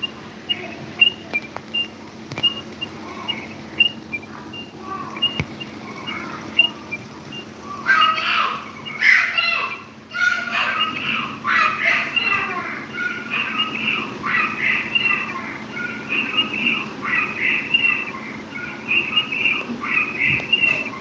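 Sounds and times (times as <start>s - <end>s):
electric fan humming: 0.0s - 21.0s
louder longer calls: 0.0s - 21.0s.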